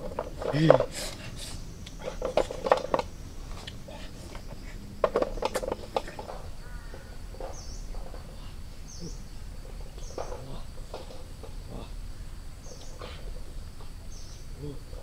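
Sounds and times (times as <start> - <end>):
insects droning: 0.0 - 15.0
sharp clicks and rustles: 0.0 - 15.0.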